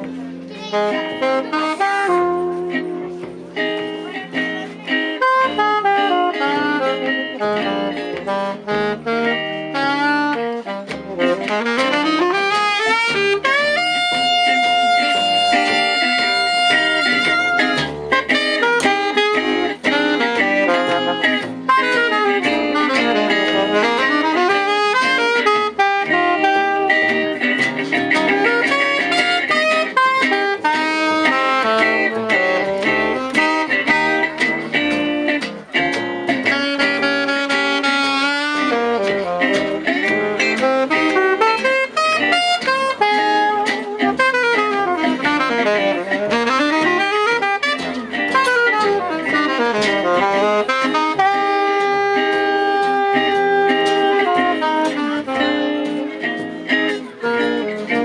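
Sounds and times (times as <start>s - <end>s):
acoustic guitar accompaniment: 0.0s - 58.0s
saxophone solo: 0.0s - 58.0s.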